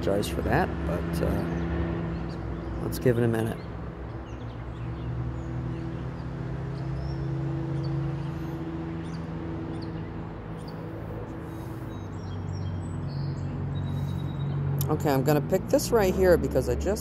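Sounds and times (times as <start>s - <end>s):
road traffic droning: 0.0s - 17.0s
small birds chirping: 0.0s - 17.0s.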